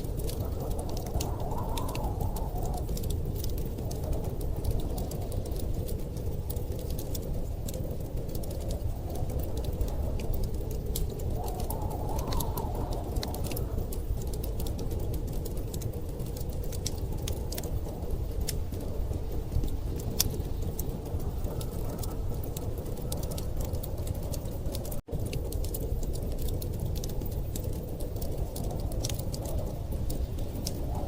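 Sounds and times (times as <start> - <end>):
blizzard wind rumble: 0.0 - 31.0
wood fire crackling: 0.0 - 31.0.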